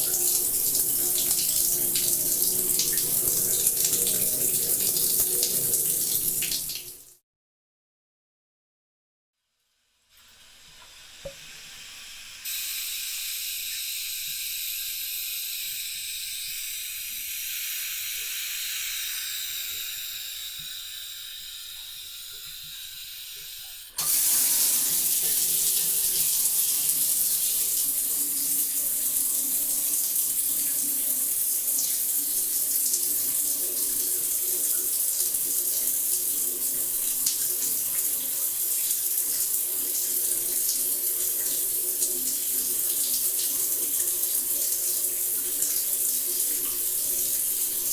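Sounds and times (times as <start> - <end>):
water running from bathtub tap: 0.0 - 7.2, 10.2 - 47.9.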